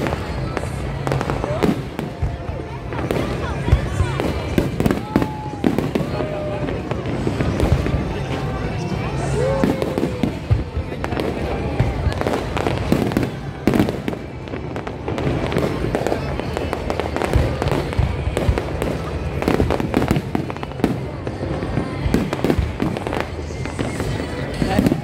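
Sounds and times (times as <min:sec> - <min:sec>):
crowd voices: 0:00.0 - 0:25.0
fireworks bangs and crackling: 0:00.0 - 0:25.0.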